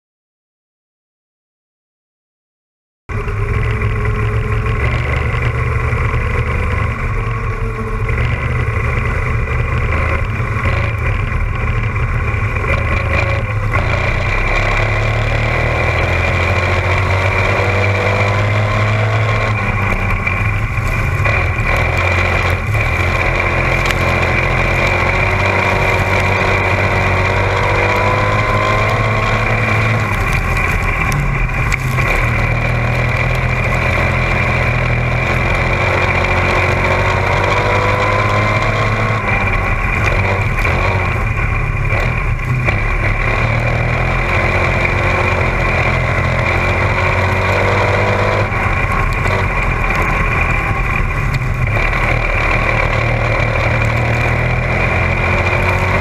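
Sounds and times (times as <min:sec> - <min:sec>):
race car engine droning: 0:03.1 - 0:56.0.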